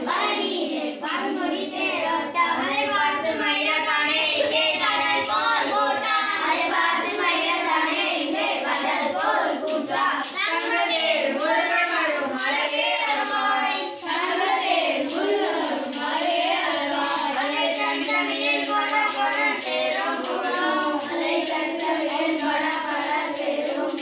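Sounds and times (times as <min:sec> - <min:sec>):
steady rhythmic beat: 0:00.0 - 0:02.6, 0:03.7 - 0:24.0
boys singing together: 0:00.0 - 0:24.0.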